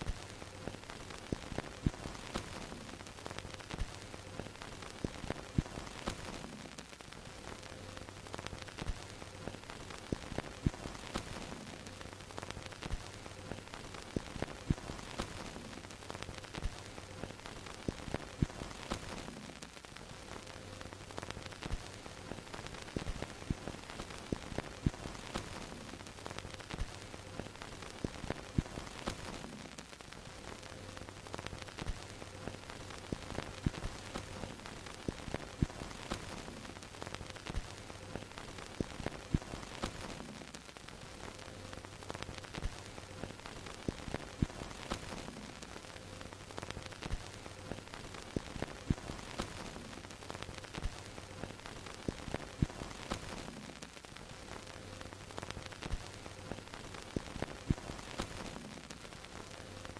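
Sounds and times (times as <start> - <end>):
film crackles and pops: 0.0 - 59.9.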